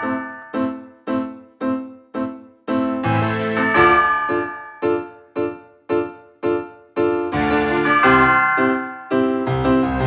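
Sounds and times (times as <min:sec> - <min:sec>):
held keyboard chord: 0:00.0 - 0:10.0
repeating keyboard notes: 0:00.0 - 0:10.0.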